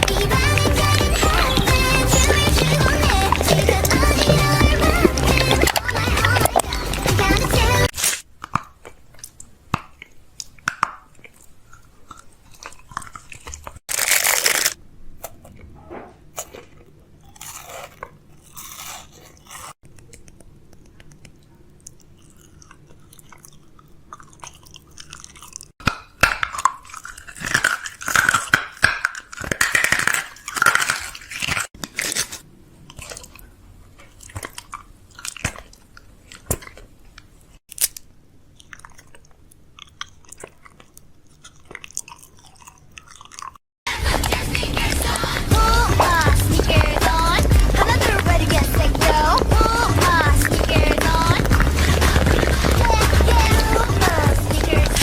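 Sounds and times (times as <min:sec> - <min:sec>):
crunchy food chewing: 0:00.0 - 0:25.8, 0:26.4 - 0:55.0.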